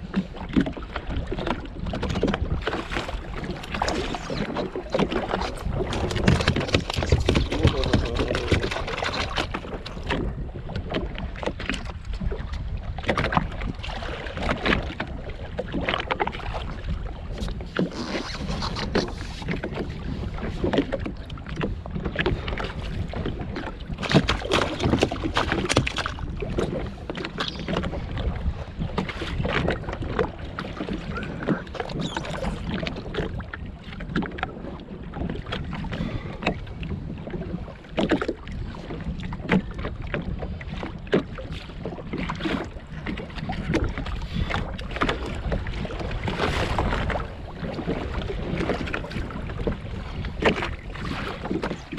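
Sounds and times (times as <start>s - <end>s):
knocks and splashes: 0.0s - 51.9s
waves slapping against hull: 0.0s - 51.9s
wind buffeting microphone: 0.0s - 51.9s.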